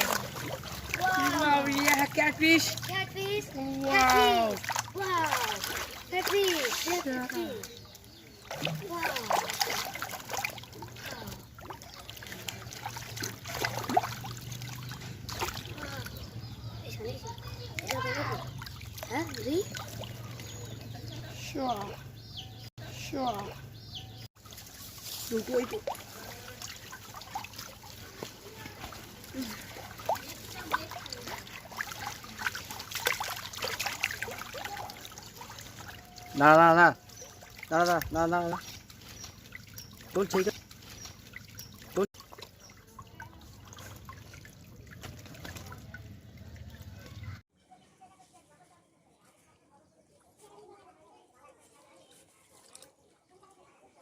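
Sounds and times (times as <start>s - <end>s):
water trickling and sloshing: 0.0s - 48.3s, 49.6s - 54.0s.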